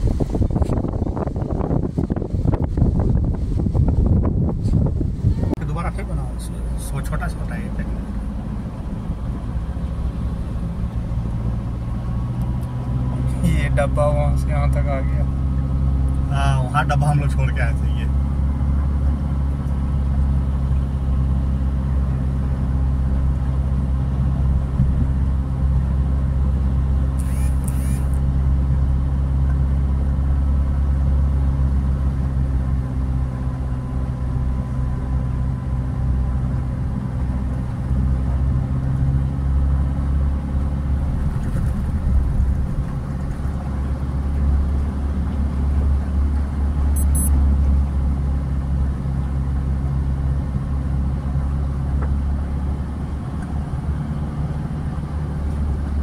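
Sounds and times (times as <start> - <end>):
car engine rumble from inside cabin: 0.0 - 56.0.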